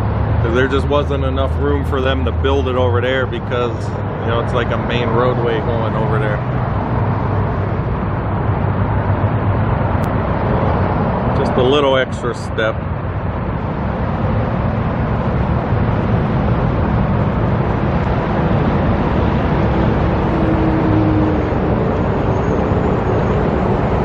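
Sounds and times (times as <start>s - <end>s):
passing cars rushing: 0.0s - 24.0s.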